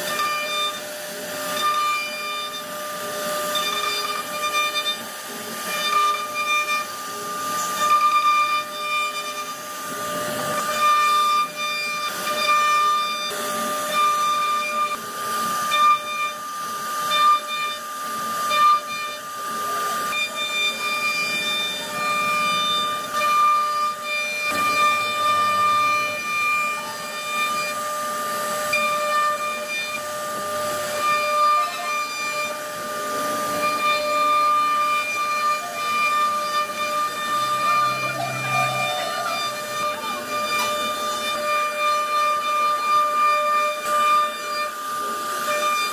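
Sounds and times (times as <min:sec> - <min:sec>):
router spindle whining: 0:00.0 - 0:45.9.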